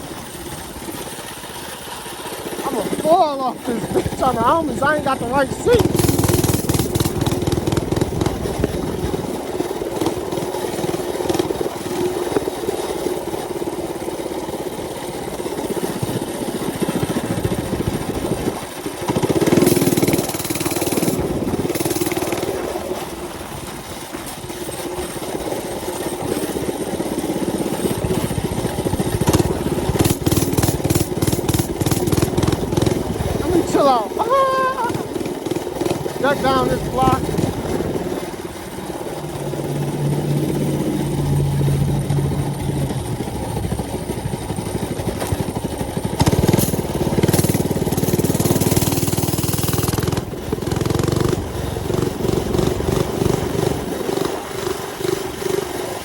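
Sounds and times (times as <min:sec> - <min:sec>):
mini bike engine droning: 0:00.0 - 0:56.0.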